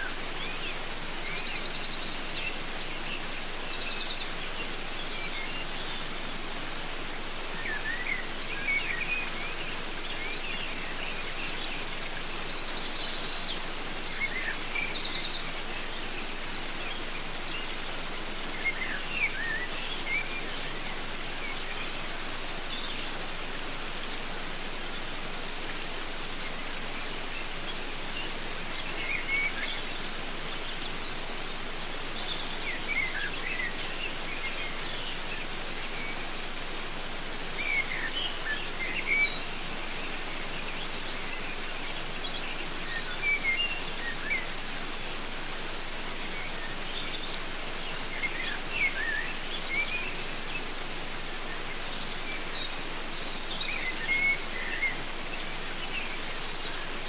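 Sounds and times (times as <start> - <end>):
birds chirping: 0.0 - 57.0
waterfall rushing: 0.0 - 57.0.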